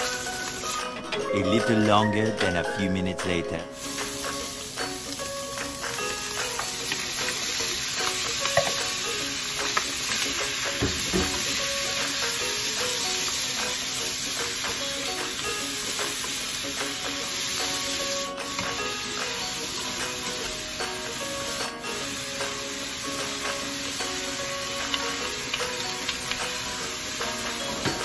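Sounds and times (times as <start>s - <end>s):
food sizzling in oil: 0.0s - 1.0s, 3.7s - 28.0s.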